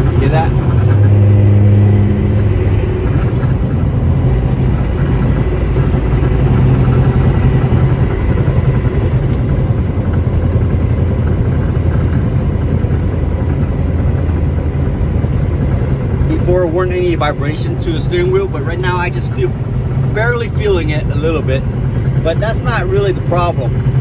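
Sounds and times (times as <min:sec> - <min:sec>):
grinding clanking metal noise: 0:00.0 - 0:24.0
truck diesel engine accelerating: 0:00.0 - 0:24.0.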